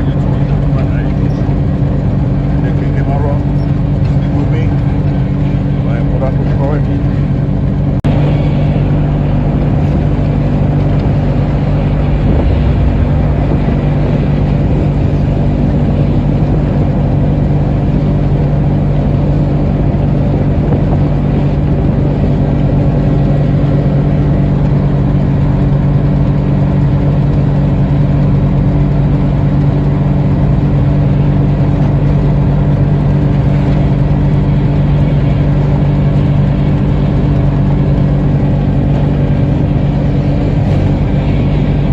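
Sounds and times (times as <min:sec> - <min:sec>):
road noise: 0:00.0 - 0:41.9
vehicle engine humming: 0:00.0 - 0:41.9.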